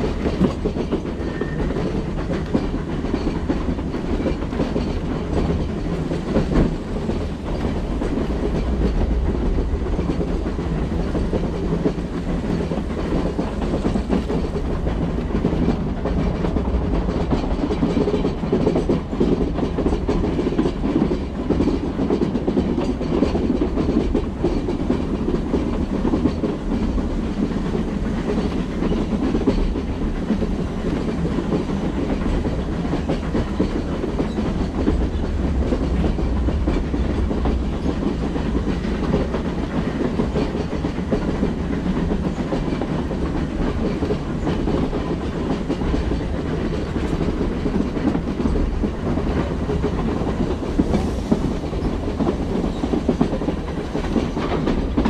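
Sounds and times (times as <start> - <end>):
train coaches rumbling on track: 0.0 - 55.0.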